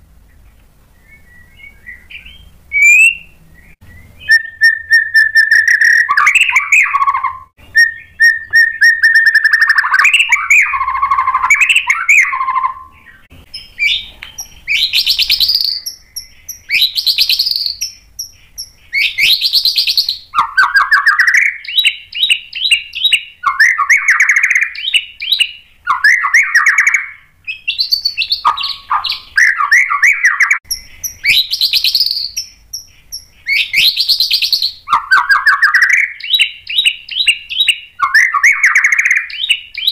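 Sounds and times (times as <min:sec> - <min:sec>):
songbird singing varied song: 0:00.2 - 0:39.9.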